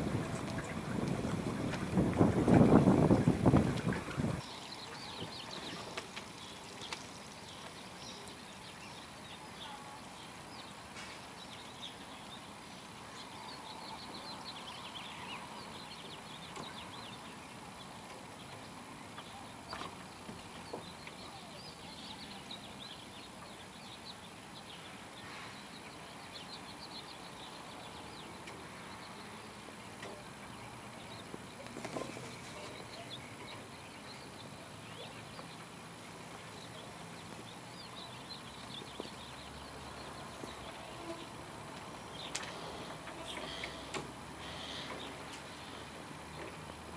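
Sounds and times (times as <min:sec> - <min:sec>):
small birds chirping: 0:00.0 - 0:46.9
steady background hiss: 0:00.0 - 0:46.9.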